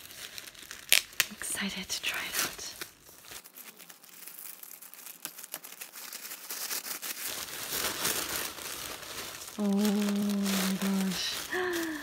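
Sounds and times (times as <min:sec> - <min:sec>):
tissue paper rustling: 0:00.0 - 0:12.0.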